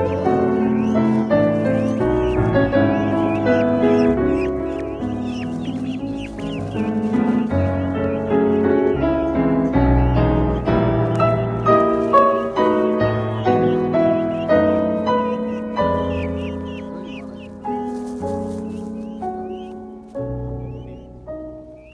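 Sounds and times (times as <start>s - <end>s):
peafowl chicks peeping: 0.0s - 21.9s
piano music: 0.0s - 21.9s.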